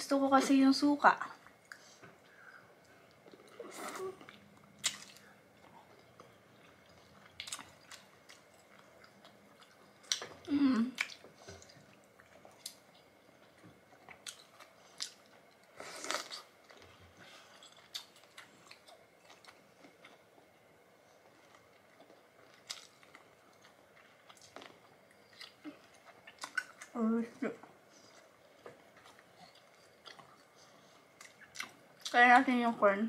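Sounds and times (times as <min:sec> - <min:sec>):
chewing and lip-smacking: 0:01.4 - 0:20.5, 0:21.2 - 0:27.0, 0:27.6 - 0:32.2.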